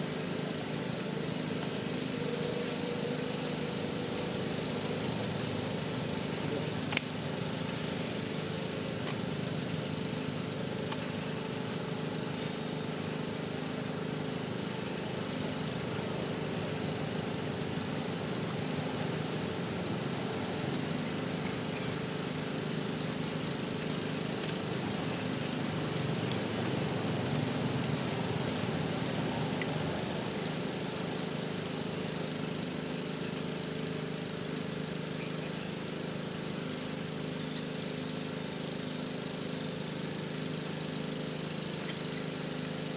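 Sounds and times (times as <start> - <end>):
engine running steadily: 0.0 - 42.9.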